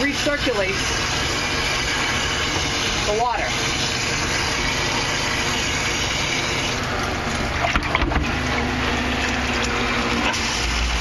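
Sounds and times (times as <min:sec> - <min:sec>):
bath pump churning water: 0:00.0 - 0:11.0.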